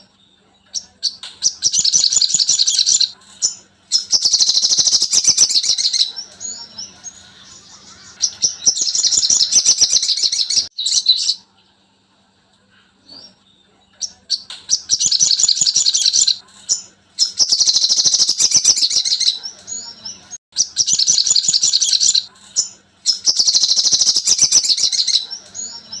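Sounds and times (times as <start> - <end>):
bird chattering trills: 0.7 - 11.4, 14.0 - 26.0.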